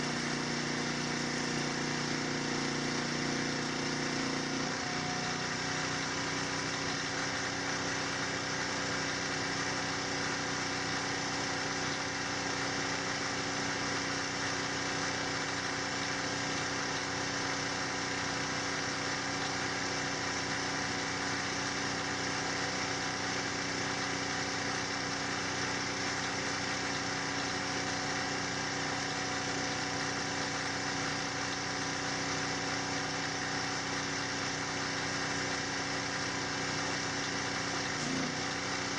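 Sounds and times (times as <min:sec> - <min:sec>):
machine humming with hiss: 0:00.0 - 0:38.9.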